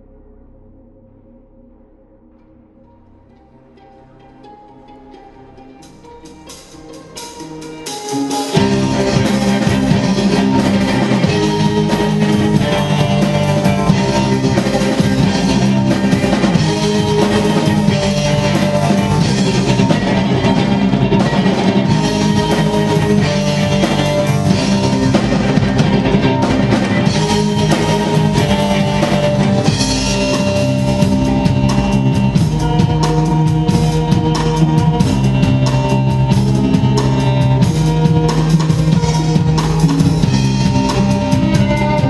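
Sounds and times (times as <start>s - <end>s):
orchestra playing rock song: 5.8s - 42.0s
drum beat: 6.3s - 42.0s.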